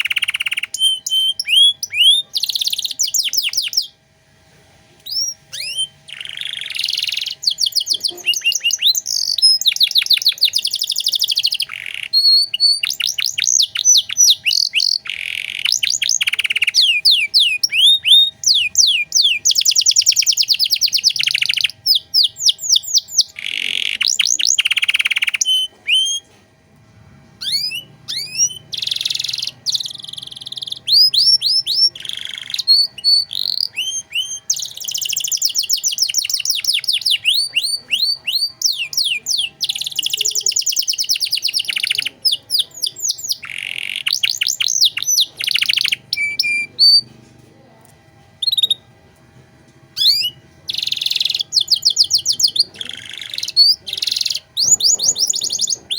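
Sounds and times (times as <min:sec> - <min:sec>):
canary singing trills: 0:00.0 - 0:04.0, 0:05.0 - 0:26.4, 0:27.4 - 0:47.2, 0:48.4 - 0:48.9, 0:50.0 - 0:55.9.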